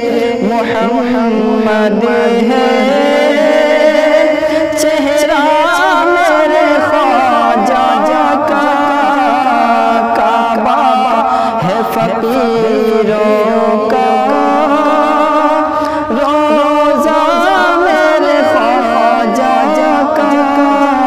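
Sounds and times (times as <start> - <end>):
man singing devotional song: 0.0 - 21.0.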